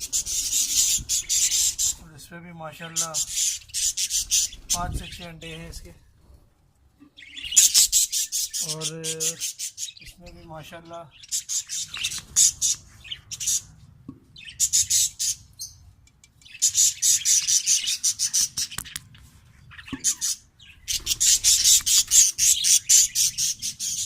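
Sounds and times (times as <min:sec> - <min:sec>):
budgerigars chattering and squawking: 0:00.0 - 0:02.0, 0:02.8 - 0:05.7, 0:07.1 - 0:13.8, 0:14.4 - 0:15.8, 0:16.4 - 0:19.1, 0:19.7 - 0:24.0.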